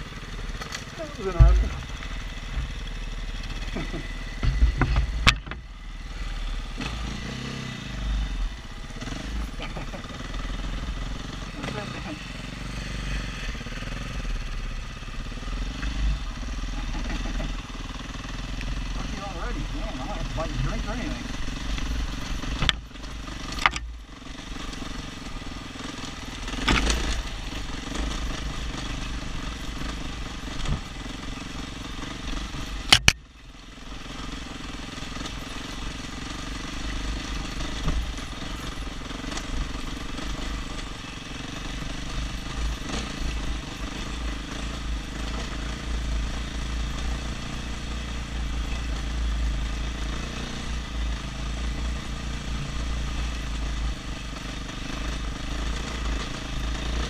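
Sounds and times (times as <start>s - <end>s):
dirt bike engine rumbling: 0.0s - 57.0s.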